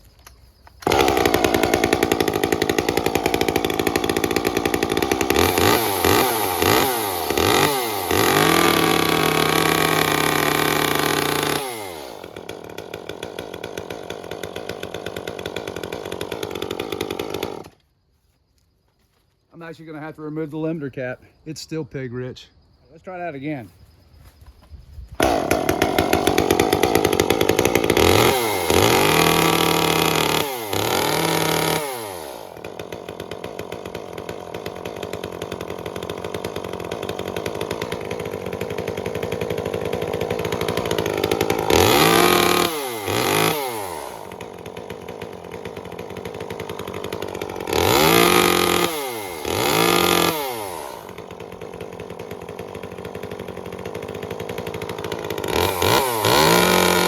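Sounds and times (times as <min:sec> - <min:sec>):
chainsaw idling and revving: 0:00.7 - 0:17.8, 0:25.2 - 0:57.0.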